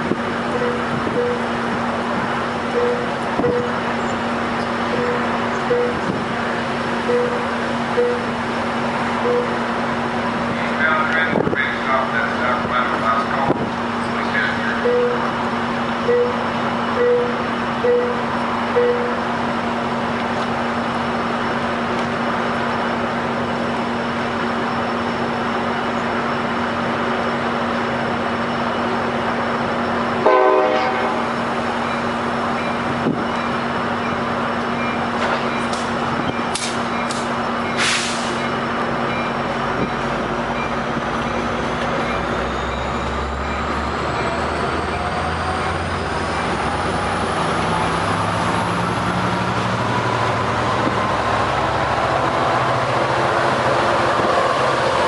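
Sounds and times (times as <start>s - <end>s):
train engine with whining tones: 0.0s - 55.0s.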